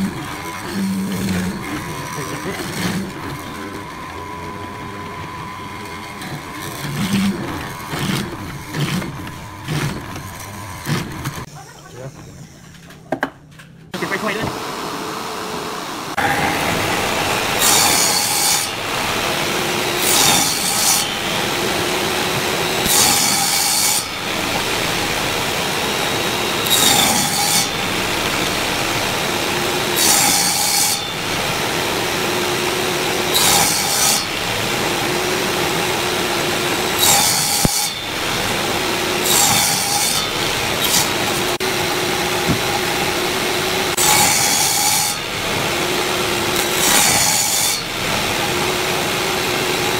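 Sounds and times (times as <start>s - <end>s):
saw blade cutting wood: 0.0s - 11.5s, 16.1s - 49.9s
table saw running: 0.0s - 12.1s, 14.0s - 49.9s.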